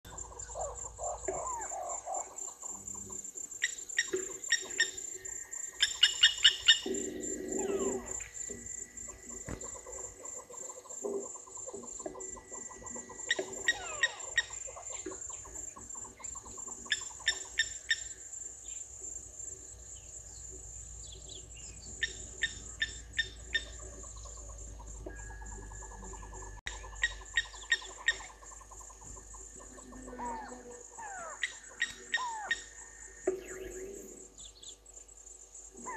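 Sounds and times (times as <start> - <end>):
faint birdsong: 0.0 - 35.9
lapwing metallic tink calls: 0.1 - 35.0
high insect drone: 0.1 - 35.9.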